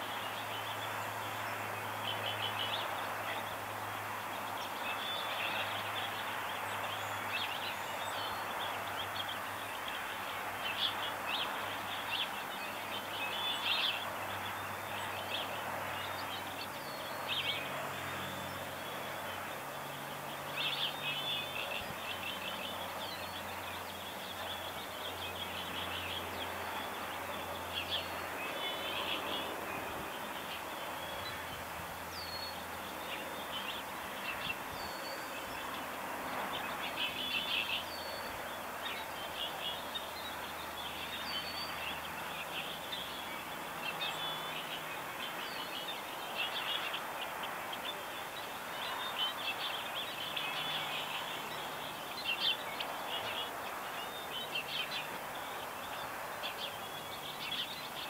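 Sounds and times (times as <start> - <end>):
small birds chirping: 0.0 - 58.0
steady outdoor hiss: 0.0 - 58.0.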